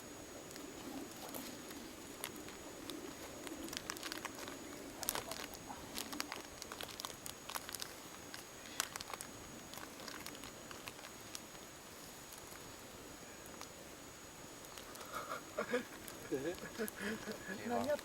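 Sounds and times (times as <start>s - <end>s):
wood campfire crackling: 0.0s - 18.0s
fire pops and snaps: 0.4s - 12.7s, 14.6s - 15.3s, 15.9s - 18.0s.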